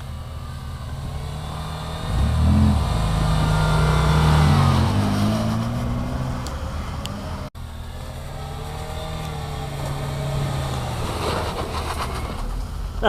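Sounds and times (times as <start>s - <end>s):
engine accelerating hard: 0.0s - 12.7s.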